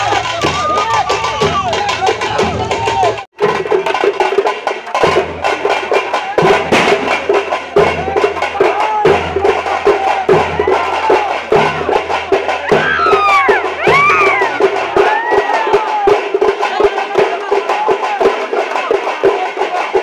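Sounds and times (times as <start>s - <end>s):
crowd noise: 0.0s - 20.0s
drums beating: 0.0s - 20.0s.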